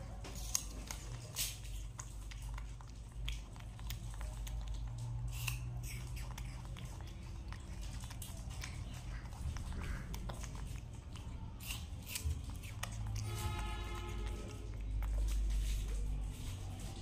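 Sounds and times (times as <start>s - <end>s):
monkey chewing fruit: 0.0s - 17.0s.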